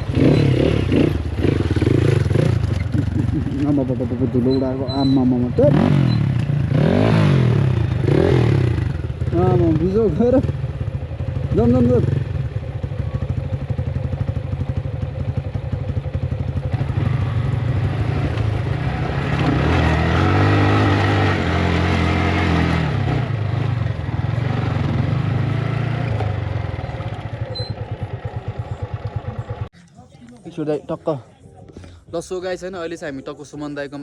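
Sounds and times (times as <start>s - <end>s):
motorcycle engine revving: 0.0s - 29.7s.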